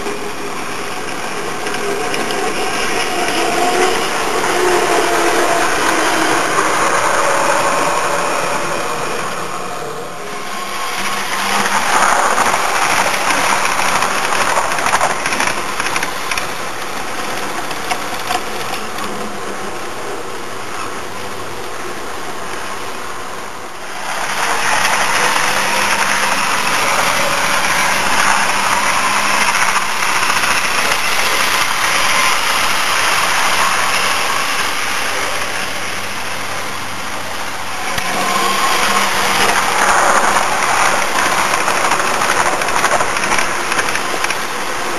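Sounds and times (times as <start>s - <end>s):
model train running on track: 0.0s - 44.9s.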